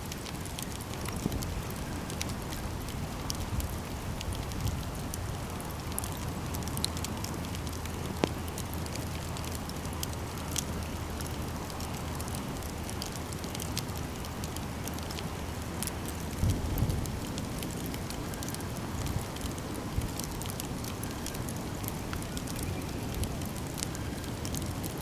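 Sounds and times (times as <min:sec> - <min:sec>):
campfire crackling: 0:00.0 - 0:25.0
sharp snaps and pops: 0:00.1 - 0:25.0.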